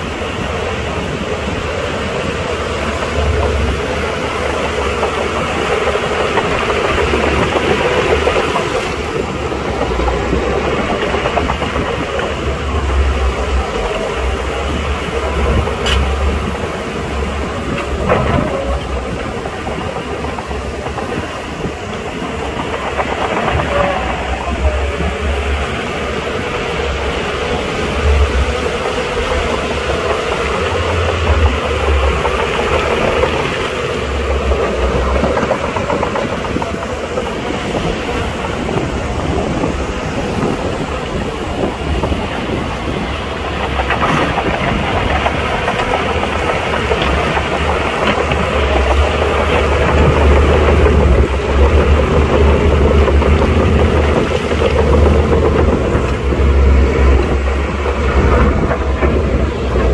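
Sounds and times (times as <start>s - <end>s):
diesel engine under load: 0.0s - 59.9s
steel tracks clattering: 0.0s - 59.9s.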